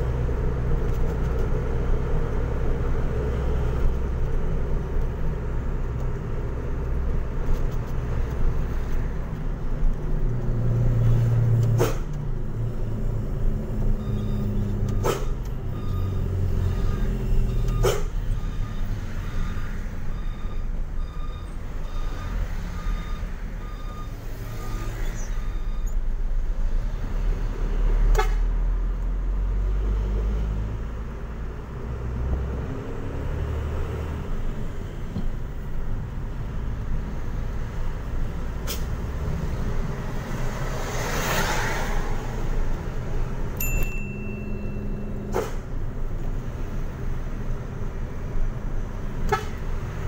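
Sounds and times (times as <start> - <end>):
truck diesel engine rumbling: 0.0 - 40.9, 41.9 - 50.0.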